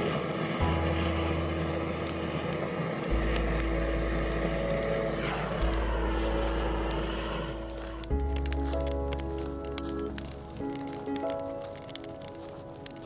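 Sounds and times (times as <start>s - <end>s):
slow held chords over bass: 0.0s - 13.0s.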